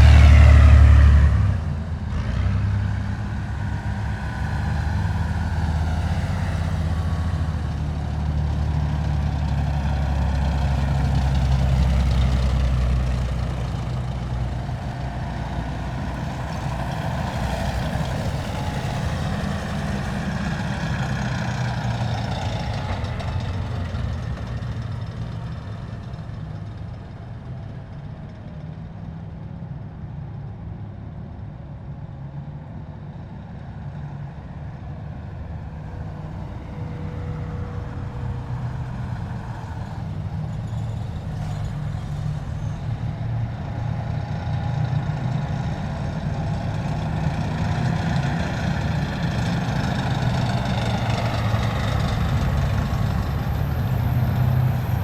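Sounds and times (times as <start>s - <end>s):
heavy diesel vehicles passing: 0.0s - 55.0s.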